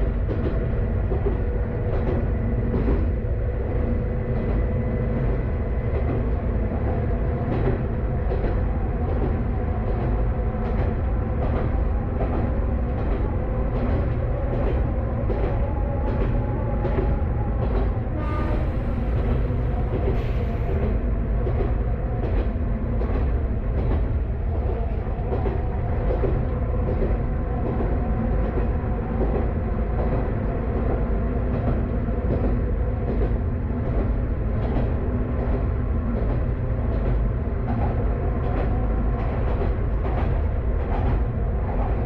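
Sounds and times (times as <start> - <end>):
rail-joint clicks: 0.0 - 42.0.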